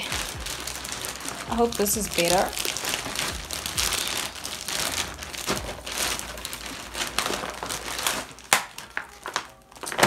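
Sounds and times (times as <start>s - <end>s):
plastic mailer bag crinkling: 0.0s - 10.0s.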